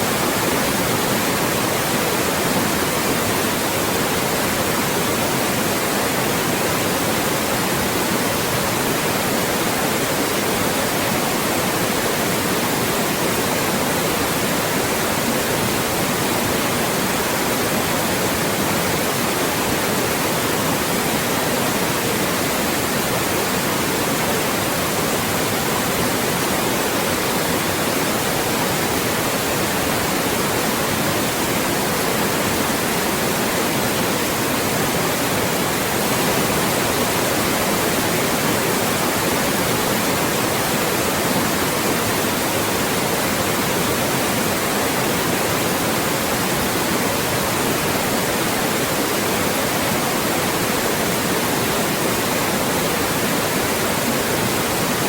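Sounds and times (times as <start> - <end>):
synthetic white noise hiss: 0.0 - 55.0.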